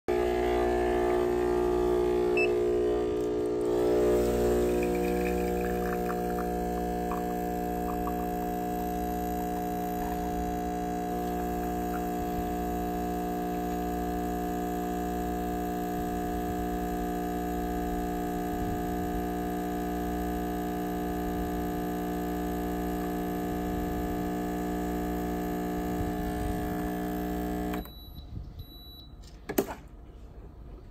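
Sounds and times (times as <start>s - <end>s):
espresso machine pump humming: 0.1s - 27.9s.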